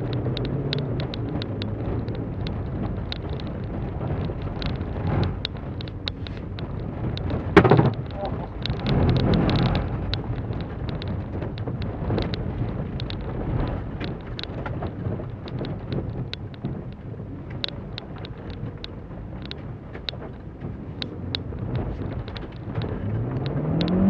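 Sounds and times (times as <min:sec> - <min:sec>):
car engine under load: 0:00.0 - 0:24.0
gravel ticking on car underside: 0:00.0 - 0:24.0
tyre and road noise: 0:00.0 - 0:24.0.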